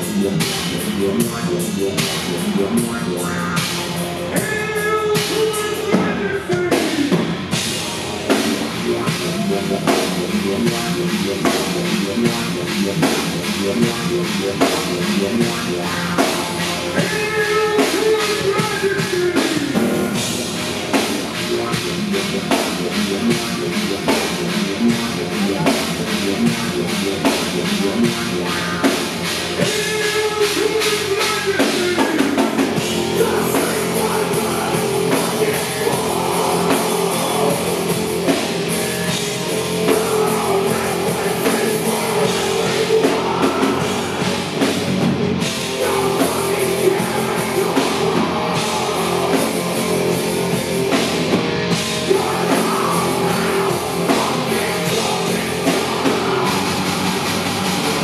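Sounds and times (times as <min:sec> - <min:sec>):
distorted guitar and keyboards: 0:00.0 - 0:58.0
drum kit beat: 0:00.0 - 0:58.0
person singing: 0:00.0 - 0:58.0.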